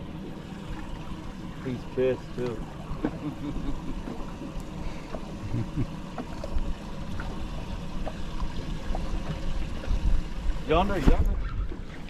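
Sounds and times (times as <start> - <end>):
water lapping and trickling: 0.0 - 12.0.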